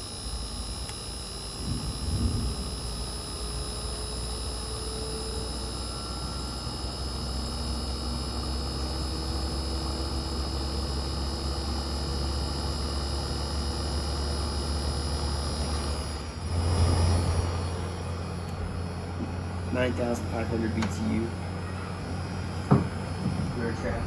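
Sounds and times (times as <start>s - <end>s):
air conditioner compressor hum: 0.0s - 24.0s
fan air noise: 0.0s - 24.0s.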